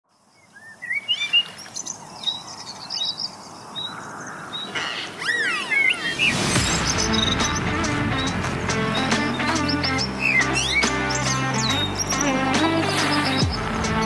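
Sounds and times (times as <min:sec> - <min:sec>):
falling whistled bird calls: 0:00.4 - 0:13.6
birds chirping and whistling: 0:00.4 - 0:14.0.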